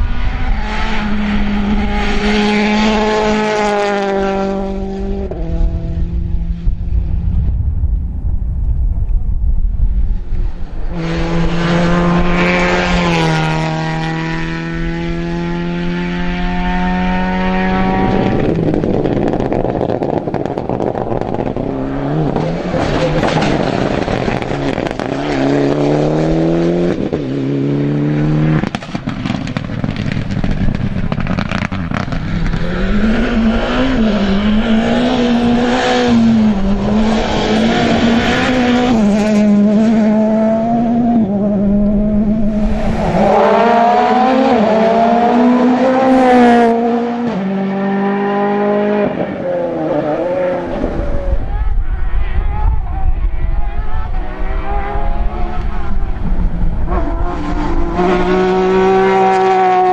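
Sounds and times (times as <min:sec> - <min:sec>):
rally car engine revving: 0:00.0 - 0:07.5, 0:09.9 - 0:59.9.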